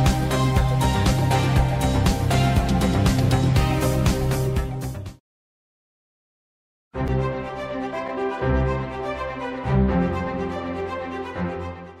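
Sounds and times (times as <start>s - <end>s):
background music with bass line: 0.0s - 5.2s, 7.0s - 12.0s.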